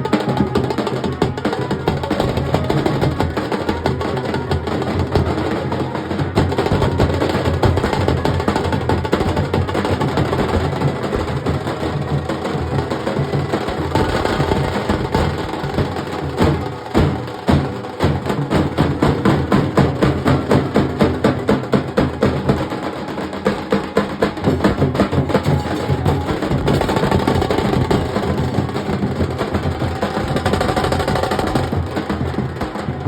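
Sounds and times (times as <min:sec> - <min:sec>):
dhol drum ensemble playing: 0:00.0 - 0:33.0.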